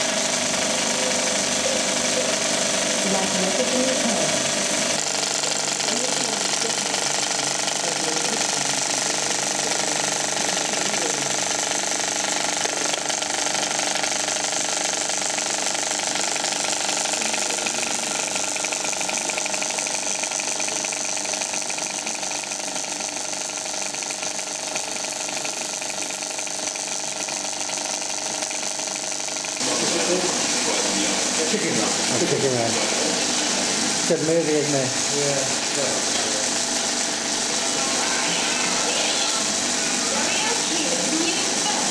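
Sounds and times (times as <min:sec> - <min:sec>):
film projector clatter and whirr: 0:00.0 - 0:41.9.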